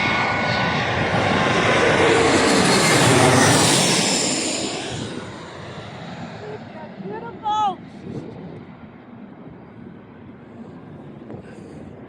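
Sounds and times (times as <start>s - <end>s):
airplane passing low overhead: 0.0s - 12.0s.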